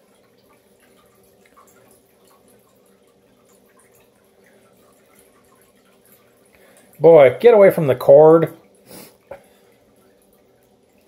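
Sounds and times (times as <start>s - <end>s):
low steady hum: 0.0s - 11.0s
water trickling and dripping: 0.0s - 11.0s.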